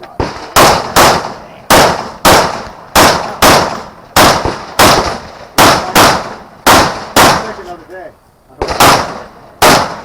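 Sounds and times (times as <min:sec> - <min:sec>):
rifle gunfire with echo: 0:00.1 - 0:07.8, 0:08.6 - 0:10.0.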